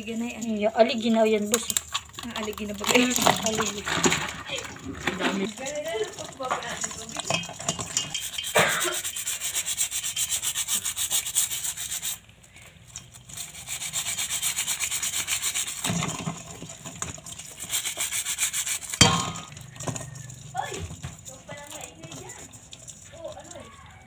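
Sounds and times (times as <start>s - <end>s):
brush scrubbing crab shell: 0.0s - 24.0s.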